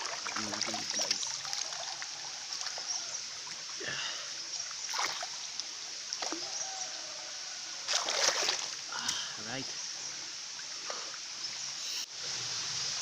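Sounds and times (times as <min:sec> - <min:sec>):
flowing water hiss: 0:00.0 - 0:13.0.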